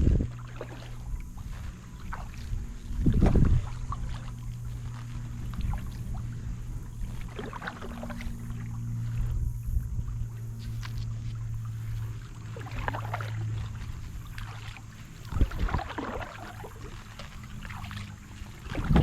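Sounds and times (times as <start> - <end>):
low rumble: 0.0 - 19.0
paddle dipping in water: 0.0 - 19.0
water dripping and splashing: 0.0 - 19.0.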